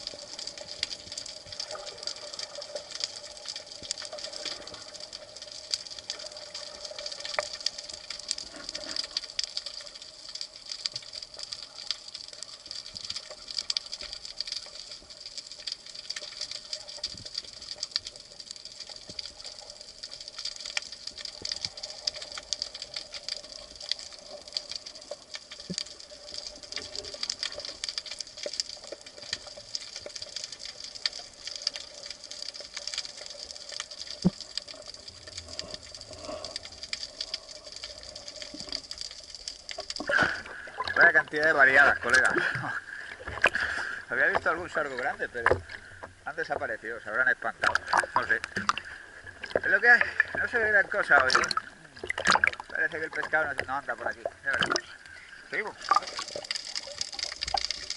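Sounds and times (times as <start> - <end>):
underwater crackle of clicks: 0.0 - 57.9.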